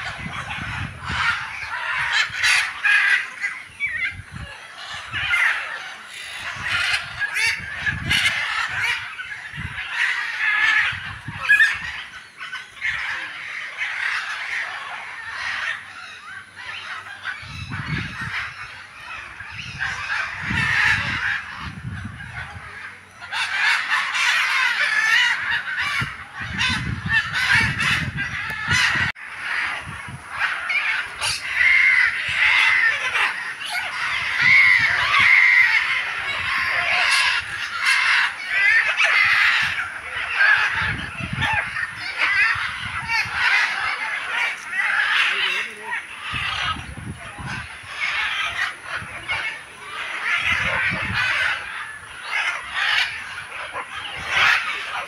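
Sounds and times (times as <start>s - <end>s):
birds squawking and honking: 0.0s - 55.0s.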